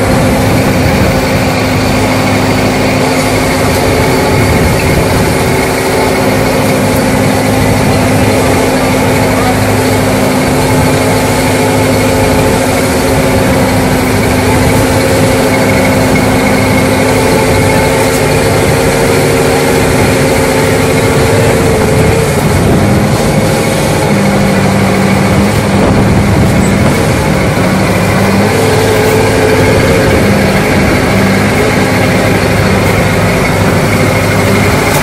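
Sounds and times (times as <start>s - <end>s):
boat engine running: 0.0s - 35.0s
net-hauling drum humming: 0.0s - 35.0s.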